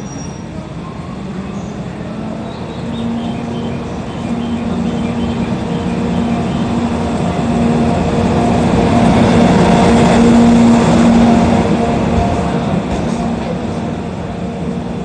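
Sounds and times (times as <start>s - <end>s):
locomotive hum: 0.0s - 15.0s
wheels rumbling on rails: 0.0s - 15.0s.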